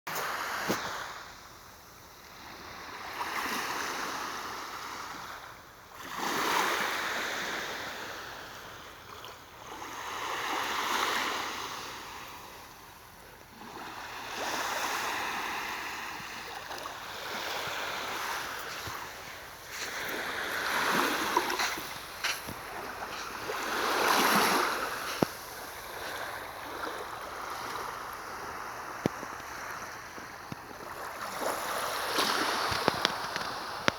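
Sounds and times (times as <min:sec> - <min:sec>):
small waves washing ashore: 0:02.2 - 0:33.9.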